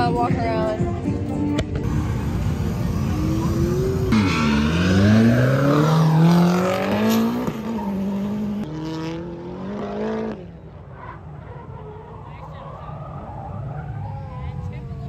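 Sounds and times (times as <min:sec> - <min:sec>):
car engine revving: 0:01.8 - 0:14.8.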